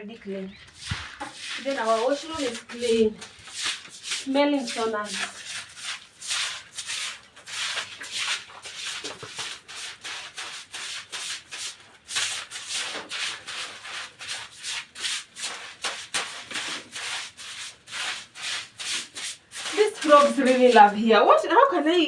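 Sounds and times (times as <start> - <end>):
brush scrubbing wet floor: 0.2 - 22.0.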